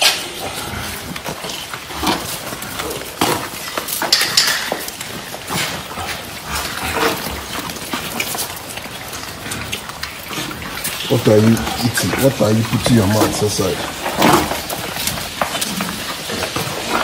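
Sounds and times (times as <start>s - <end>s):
piglets grunting: 0.0s - 17.0s.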